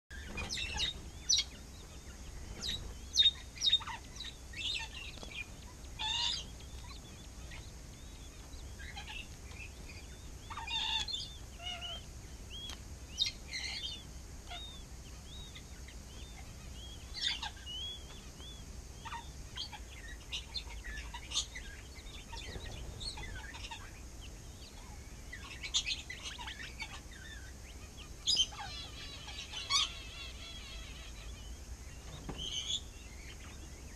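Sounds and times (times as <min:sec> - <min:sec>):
faint low hum: 0:00.1 - 0:33.9
quail chirping: 0:00.1 - 0:33.9.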